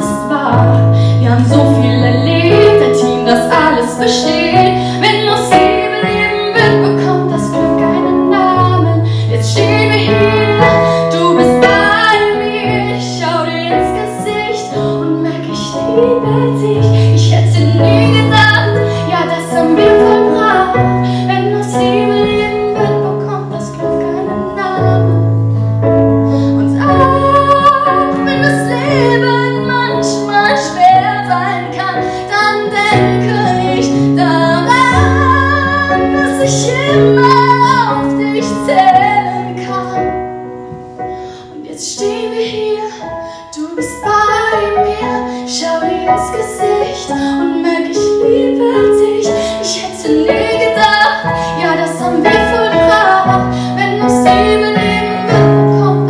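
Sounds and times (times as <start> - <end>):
woman singing slow song: 0.0 - 25.4, 26.5 - 40.4, 41.4 - 56.0
piano accompaniment: 0.0 - 56.0.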